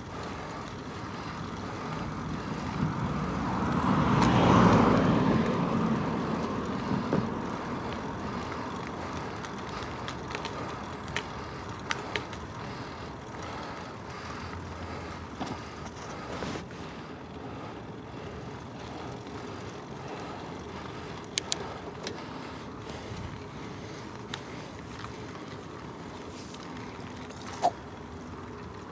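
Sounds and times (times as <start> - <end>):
bicycle rolling on road: 0.0 - 28.9
motor vehicle passing: 0.0 - 28.9.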